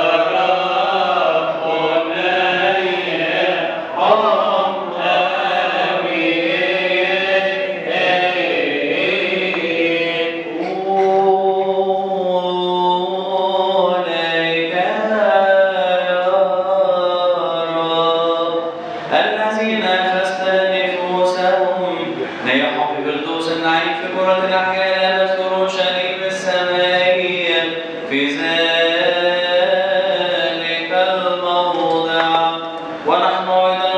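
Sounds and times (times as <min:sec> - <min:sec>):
men chanting liturgical chant: 0:00.0 - 0:33.9.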